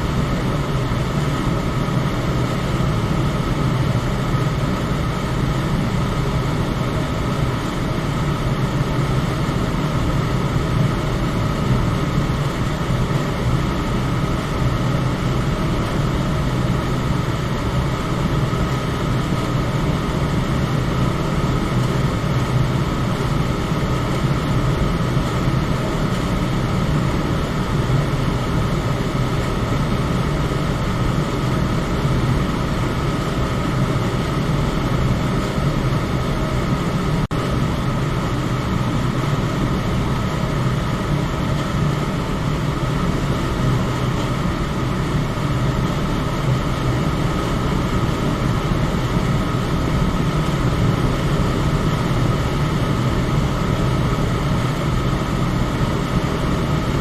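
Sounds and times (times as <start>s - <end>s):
electric fan humming: 0.0s - 57.0s
faint steady whine: 0.0s - 57.0s.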